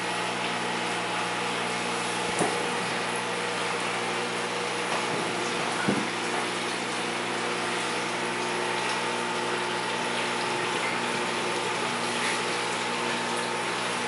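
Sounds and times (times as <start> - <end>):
aquarium pump humming: 0.0 - 14.0
water rushing through filter: 0.0 - 14.0.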